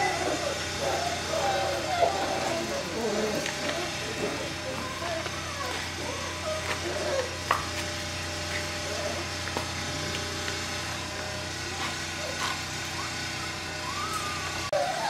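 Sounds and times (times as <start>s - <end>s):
low machine hum: 0.0s - 15.0s
puppies whining: 0.0s - 15.0s.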